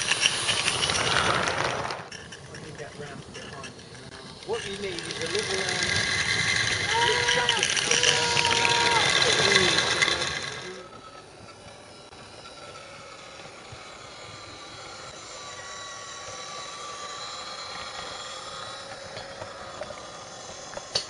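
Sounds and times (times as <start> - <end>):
model steam locomotive hissing: 0.0 - 21.0.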